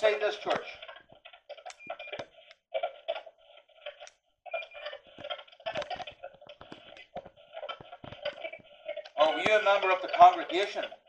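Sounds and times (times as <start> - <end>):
choppy radio fragments: 0.0 - 11.0.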